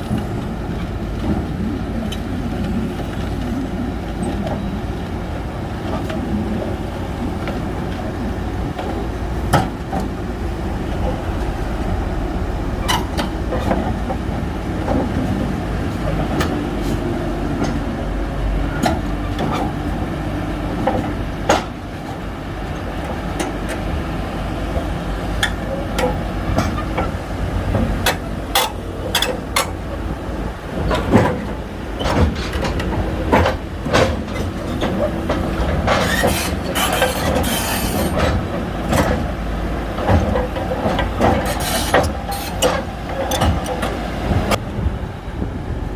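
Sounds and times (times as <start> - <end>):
bulldozer diesel engine: 0.0 - 45.9
steel tracks clanking: 0.0 - 45.9.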